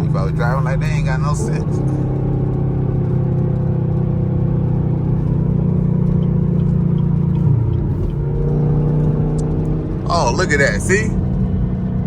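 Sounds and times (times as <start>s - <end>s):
car engine deep exhaust note: 0.0s - 12.0s.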